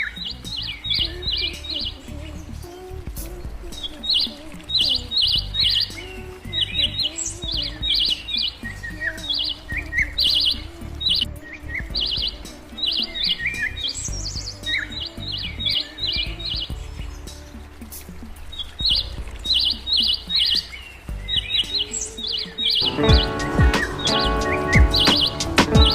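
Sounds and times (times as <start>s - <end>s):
songbird chirping: 0.0s - 25.9s.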